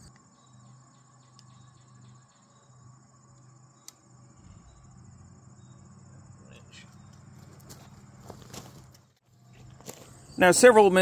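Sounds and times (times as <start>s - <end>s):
crickets chirping: 0.0s - 11.0s
faint low hum: 0.0s - 11.0s.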